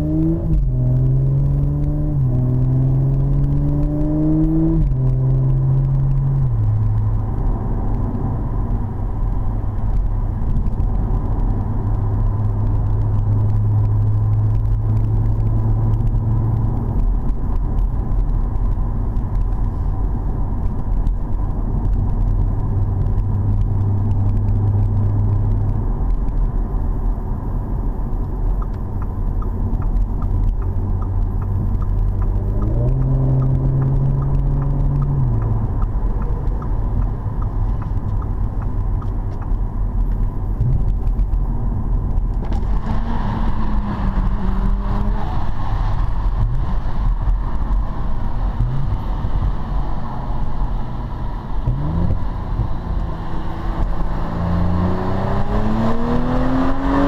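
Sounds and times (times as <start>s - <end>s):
car engine drone: 0.0s - 57.0s
tyre and road noise: 0.0s - 57.0s.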